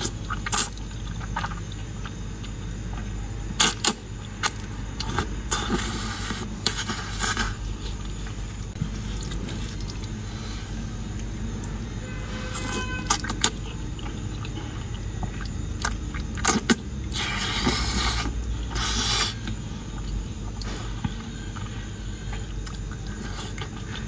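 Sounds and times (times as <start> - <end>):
noodles slurped and chewed: 0.0 - 11.8, 12.5 - 24.0
low hum: 0.0 - 24.0.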